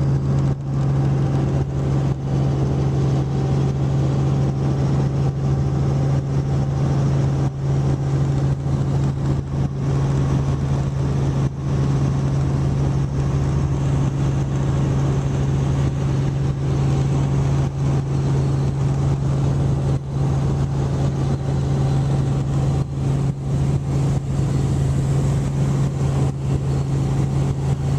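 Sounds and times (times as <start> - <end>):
helicopter rotor and engine noise: 0.0 - 27.9.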